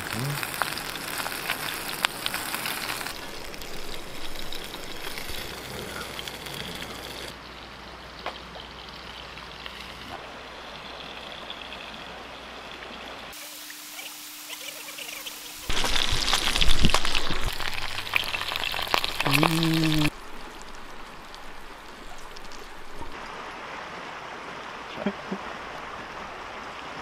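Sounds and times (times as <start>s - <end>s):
flowing stream: 0.0s - 27.0s.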